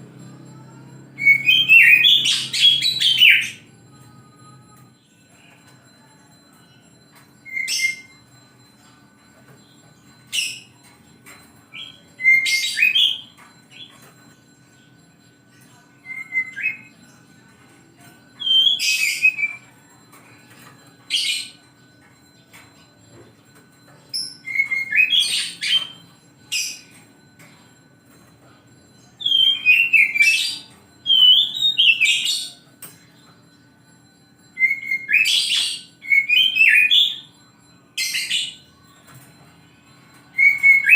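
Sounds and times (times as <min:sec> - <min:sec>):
magpie-robin singing: 0:00.8 - 0:03.8, 0:04.8 - 0:08.3, 0:09.4 - 0:14.9, 0:15.6 - 0:17.6, 0:18.3 - 0:28.4, 0:29.0 - 0:33.5, 0:34.5 - 0:39.3, 0:40.3 - 0:40.9.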